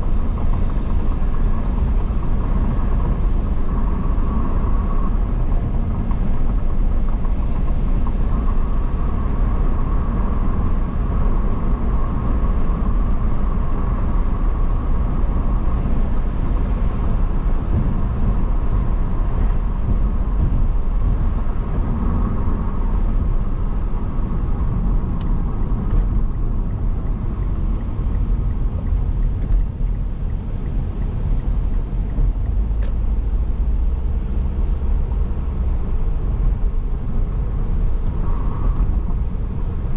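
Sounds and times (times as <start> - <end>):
car engine: 0.0 - 39.9
road and tyre rumble: 0.0 - 39.9.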